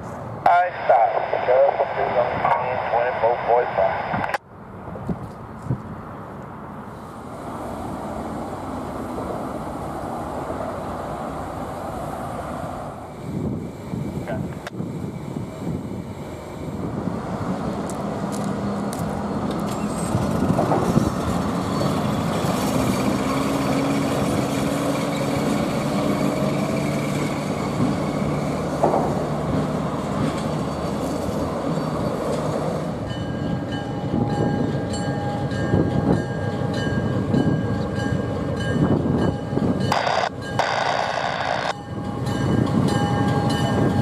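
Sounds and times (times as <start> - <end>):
diesel locomotive engine hum: 0.0 - 44.0
rail cars rolling: 4.5 - 44.0.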